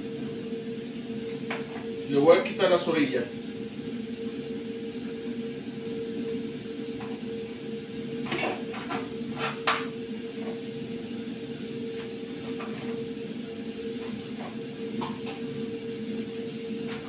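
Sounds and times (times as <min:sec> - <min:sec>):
pressure cooker hissing: 0:00.0 - 0:17.0.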